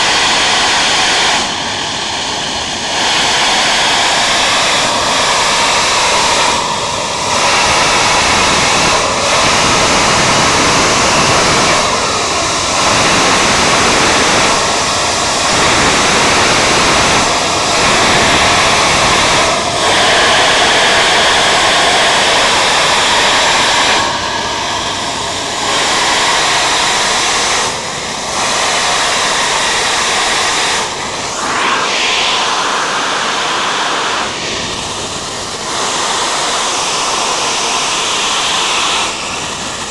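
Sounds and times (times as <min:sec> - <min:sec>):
pressurized gas rushing hiss: 0:00.0 - 0:39.9.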